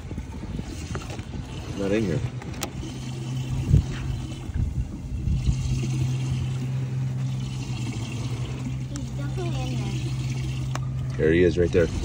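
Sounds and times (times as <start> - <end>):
boat motor hum: 0.0 - 12.0
low rumble: 0.0 - 12.0.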